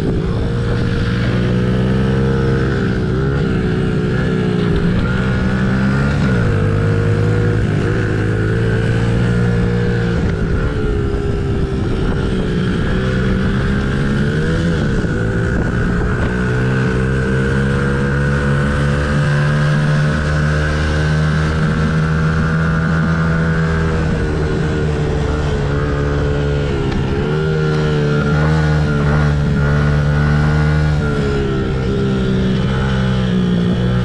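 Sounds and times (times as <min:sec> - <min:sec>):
small motorbike engine revving: 0:00.0 - 0:34.0.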